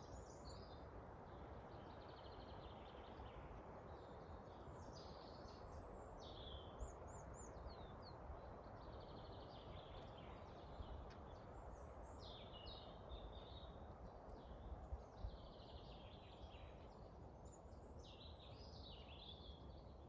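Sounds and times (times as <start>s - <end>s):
low rumble of wind: 0.0s - 20.0s.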